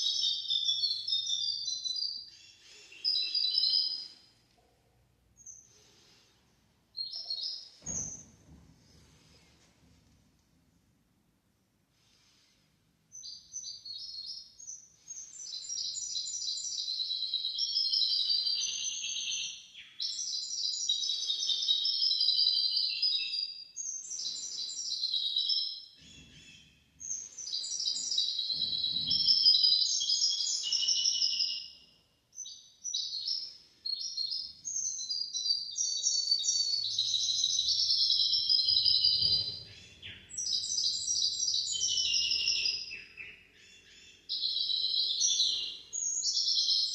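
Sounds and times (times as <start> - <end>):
finch singing twittering phrases: 0.0 - 4.2, 7.0 - 8.2, 13.1 - 46.9.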